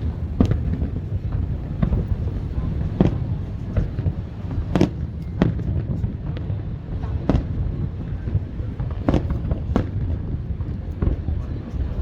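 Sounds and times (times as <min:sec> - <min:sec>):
fireworks booming: 0:00.0 - 0:12.0
wind rumble on microphone: 0:00.0 - 0:12.0.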